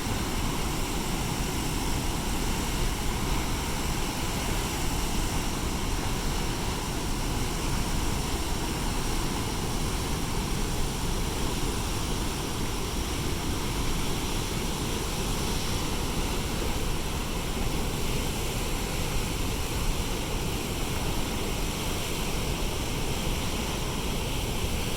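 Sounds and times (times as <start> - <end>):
water rushing from dam outlet: 0.0 - 24.9.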